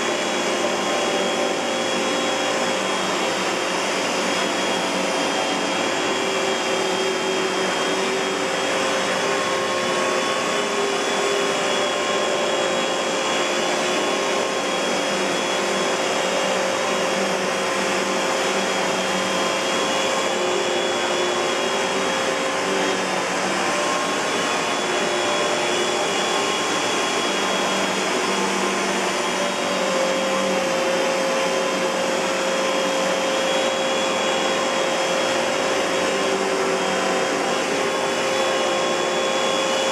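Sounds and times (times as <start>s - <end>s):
canister vacuum running: 0.0s - 39.9s.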